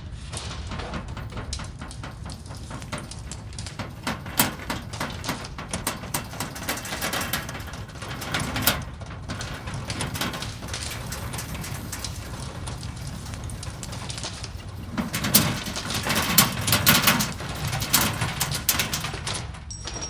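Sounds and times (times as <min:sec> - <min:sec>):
deep earthquake rumble: 0:00.0 - 0:19.6
sharp crackles and rattles: 0:00.0 - 0:20.0.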